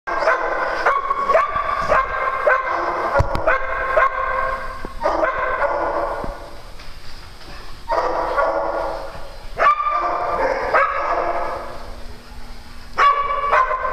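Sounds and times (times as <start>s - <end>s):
small dogs barking and yapping: 0.1s - 6.5s, 7.9s - 11.8s, 13.0s - 13.9s.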